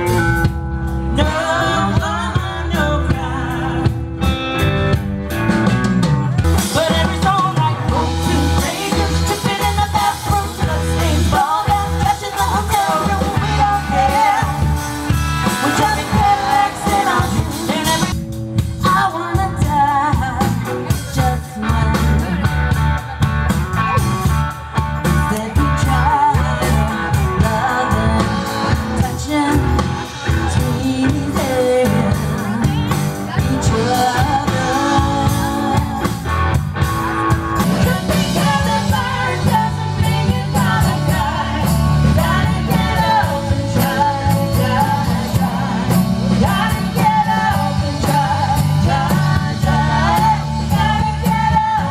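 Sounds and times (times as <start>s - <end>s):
bass guitar: 0.0s - 51.9s
drum kit: 0.0s - 51.9s
electric guitar: 0.0s - 51.9s
woman singing lead: 0.9s - 4.4s, 6.4s - 24.0s, 25.0s - 51.9s.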